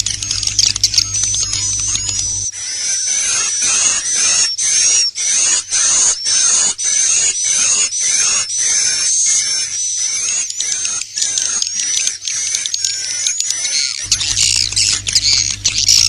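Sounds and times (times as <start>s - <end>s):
buzzy high bird chirps: 0.0s - 16.0s.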